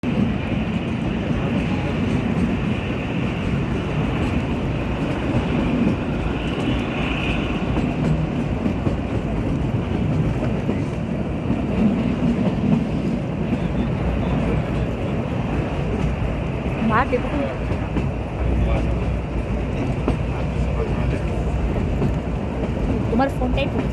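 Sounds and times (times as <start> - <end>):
train running: 0.0 - 23.9.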